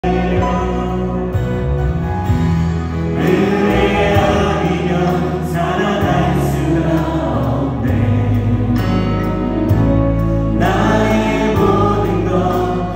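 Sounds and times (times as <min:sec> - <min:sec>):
group singing worship song: 0:00.0 - 0:01.7, 0:02.8 - 0:12.9
live instrumental accompaniment: 0:00.0 - 0:12.9.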